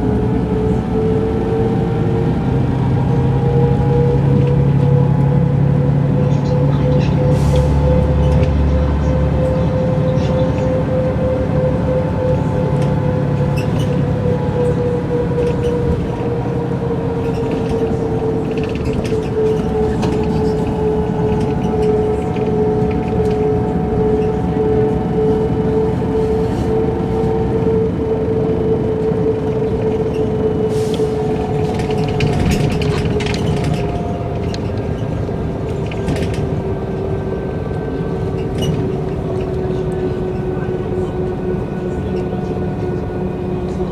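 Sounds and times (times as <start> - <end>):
bus engine and running noise: 0.0 - 43.9.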